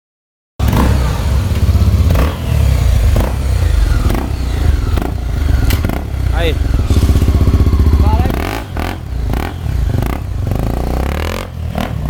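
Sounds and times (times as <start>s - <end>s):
motorcycle engine running: 0.6s - 12.0s.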